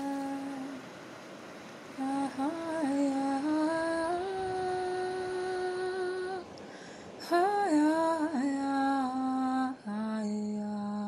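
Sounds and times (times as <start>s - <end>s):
person humming a slow melody: 0.0s - 0.8s, 2.0s - 6.6s, 7.2s - 11.0s.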